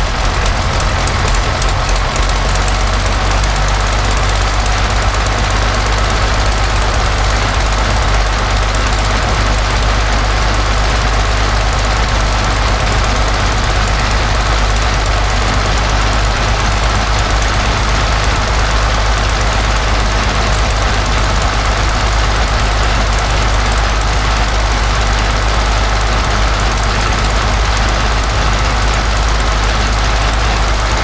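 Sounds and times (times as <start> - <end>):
aero engine running steadily: 0.0 - 31.0.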